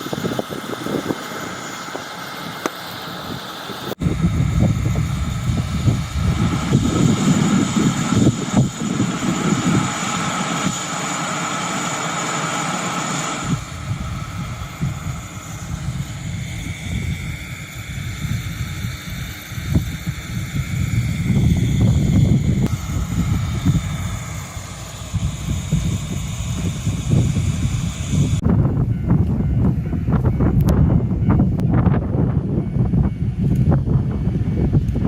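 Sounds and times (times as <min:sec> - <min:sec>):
electric train rumbling: 0:00.0 - 0:35.0
train whining tones: 0:00.0 - 0:35.0.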